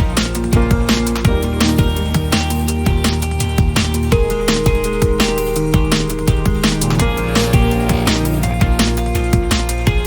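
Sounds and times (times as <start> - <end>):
drum and bass electronic music: 0.0 - 10.0.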